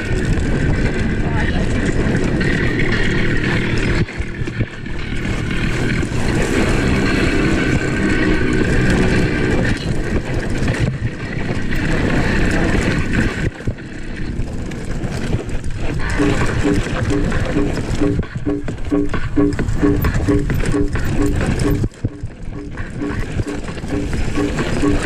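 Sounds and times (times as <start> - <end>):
bike knocking and rattling: 0.0 - 25.0.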